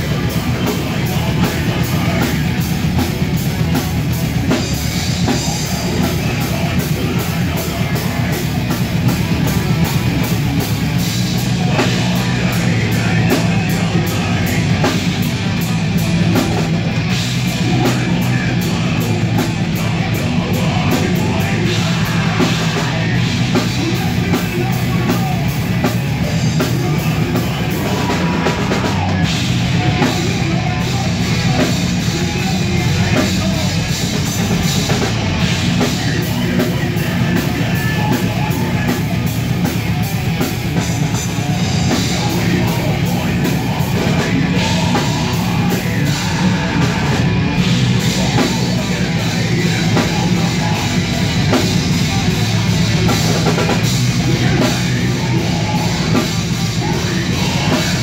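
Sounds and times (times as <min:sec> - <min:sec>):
distorted electric guitars: 0:00.0 - 0:58.0
drums and cymbals: 0:00.0 - 0:58.0.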